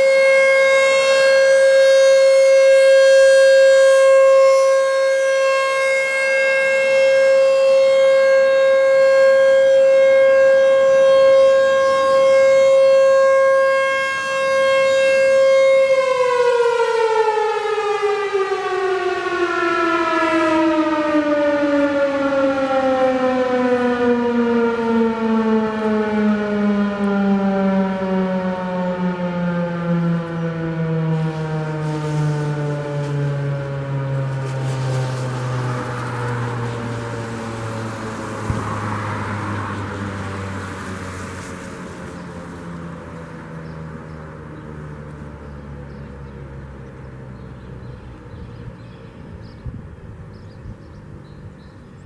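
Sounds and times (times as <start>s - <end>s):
electromechanical warning siren: 0.0s - 52.0s.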